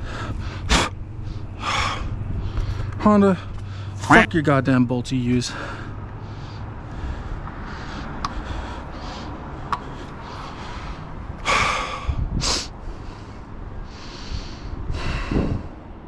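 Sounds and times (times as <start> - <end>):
man breathing heavily: 0.0 - 4.6, 5.3 - 16.0
steady low rumble: 0.0 - 16.0.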